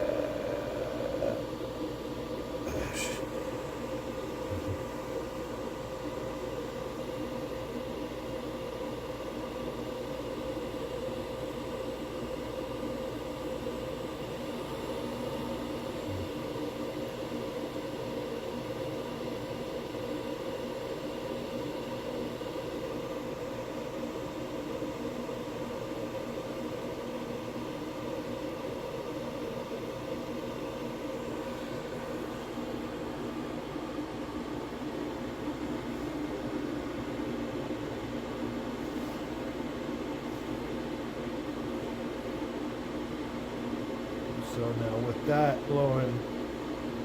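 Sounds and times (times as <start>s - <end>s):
heater blower fan whirring: 0.0s - 47.0s.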